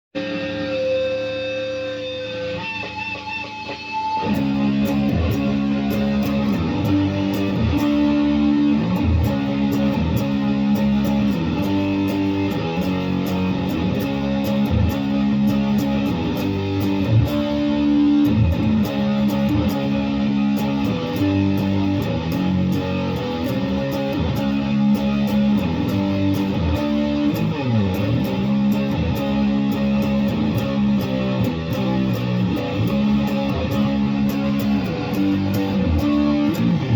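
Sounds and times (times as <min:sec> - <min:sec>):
electric guitar playing: 0:00.2 - 0:36.9.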